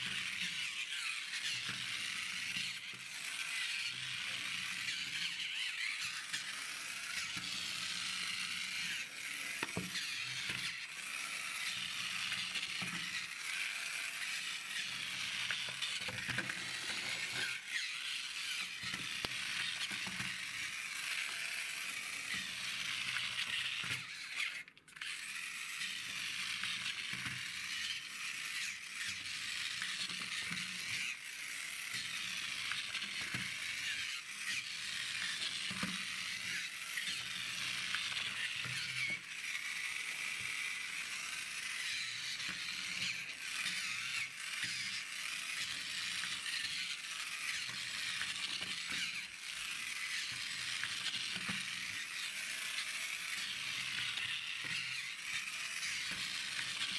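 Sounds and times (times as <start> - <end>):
toy car gears whirring: 0.0 - 56.9.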